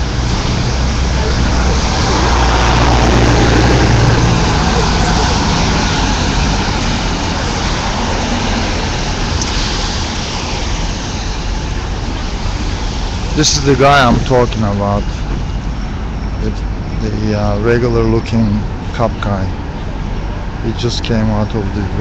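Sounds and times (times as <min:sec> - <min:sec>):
street noise: 0:00.0 - 0:22.0
vehicle engine running: 0:00.0 - 0:22.0.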